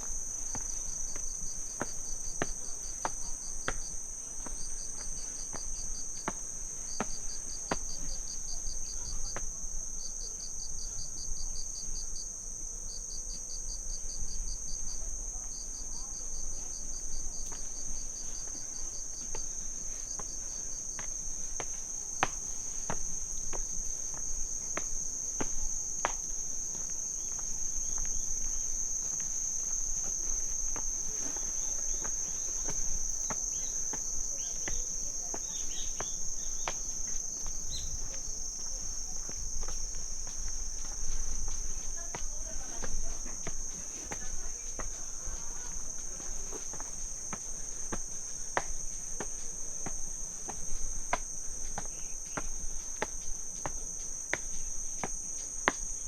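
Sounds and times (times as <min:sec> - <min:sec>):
footsteps on path: 0:00.0 - 0:08.4, 0:16.5 - 0:56.0
crickets chirping: 0:00.0 - 0:56.0.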